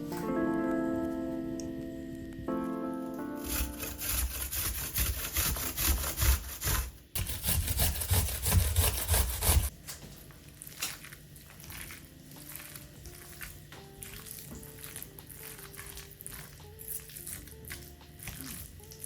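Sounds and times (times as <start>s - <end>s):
soft background music: 0.0s - 6.0s, 9.7s - 19.0s
food preparation strokes: 3.4s - 19.0s.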